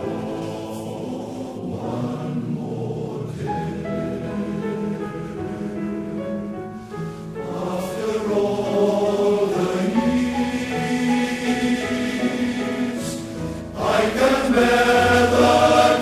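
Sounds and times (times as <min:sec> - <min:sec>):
male voice choir singing: 0:00.0 - 0:06.6, 0:07.4 - 0:16.0
piano accompaniment: 0:00.0 - 0:16.0.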